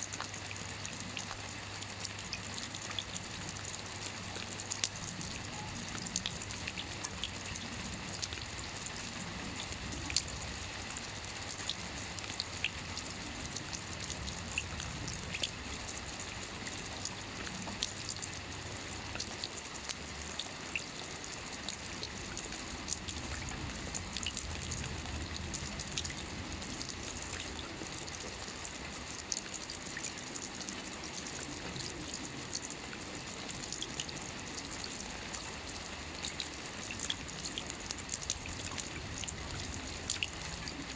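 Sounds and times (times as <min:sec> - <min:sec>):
rain pattering: 0:00.0 - 0:40.9
water drips ticking: 0:00.0 - 0:40.9.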